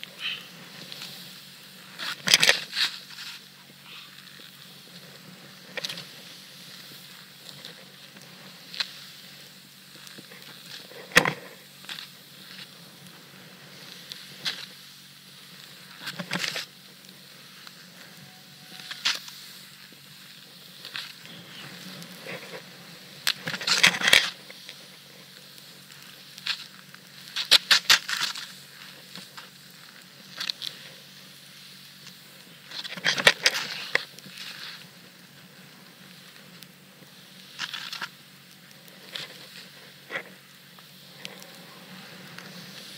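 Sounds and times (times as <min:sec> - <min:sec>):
snowboard edges crunching and scraping: 0:00.0 - 0:42.9
snowboard hissing through snow: 0:00.0 - 0:42.9.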